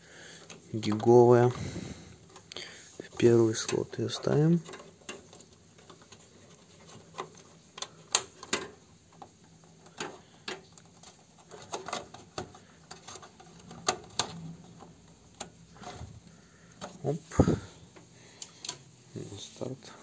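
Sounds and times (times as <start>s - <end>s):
hands handling computer parts: 0.3s - 19.7s.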